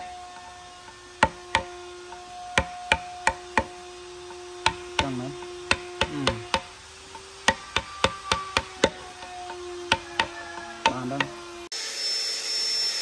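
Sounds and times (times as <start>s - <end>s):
mallet knocking on chisel: 0.8s - 11.4s.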